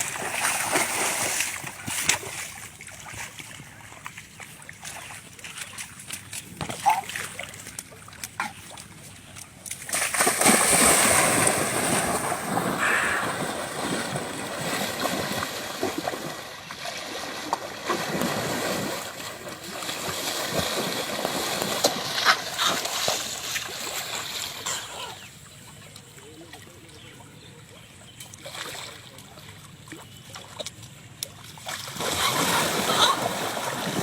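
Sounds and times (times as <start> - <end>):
water splashing and sloshing: 0.0 - 34.0.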